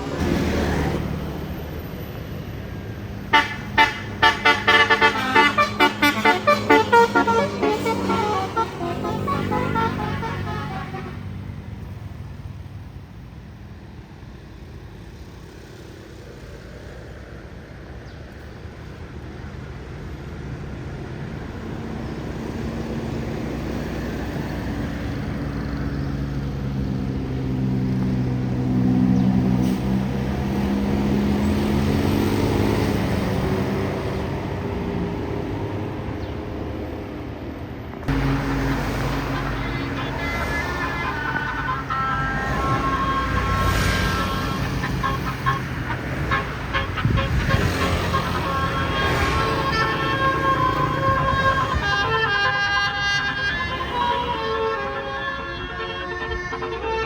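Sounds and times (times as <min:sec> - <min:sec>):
bus passing by: 0:00.0 - 0:57.0.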